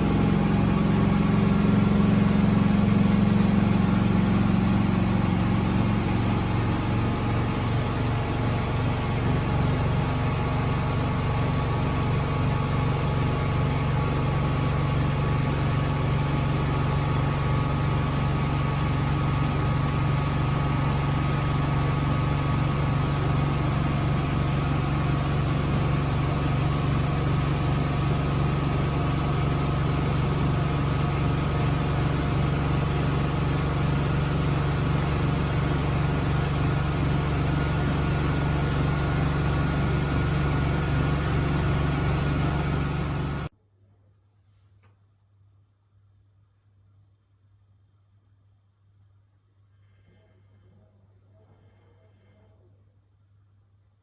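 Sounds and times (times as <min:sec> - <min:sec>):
washing machine spinning: 0:00.0 - 0:43.5.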